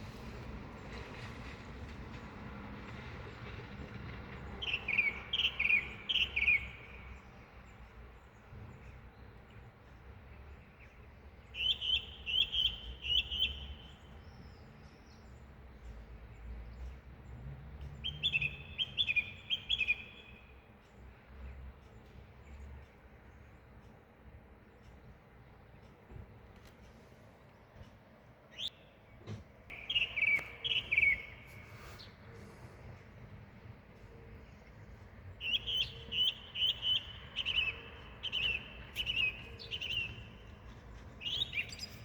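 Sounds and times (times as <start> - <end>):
songbird singing: 2.2 - 42.0.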